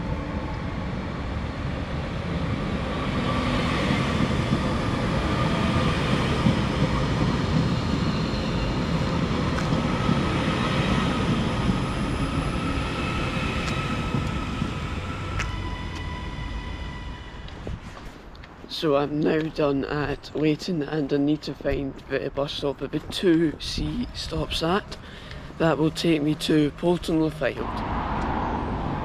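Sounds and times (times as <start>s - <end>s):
steady train whine: 0.0s - 19.6s, 22.7s - 29.0s
electric train passing on rails: 0.0s - 29.0s.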